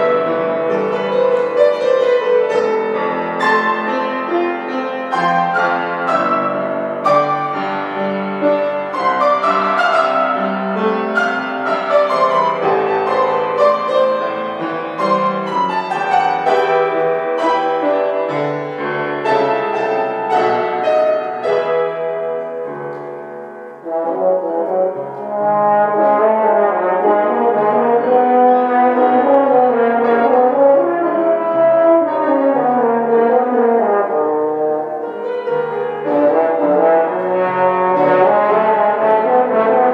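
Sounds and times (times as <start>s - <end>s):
brass instrument melody: 0.0s - 39.9s
piano accompaniment: 0.0s - 39.9s.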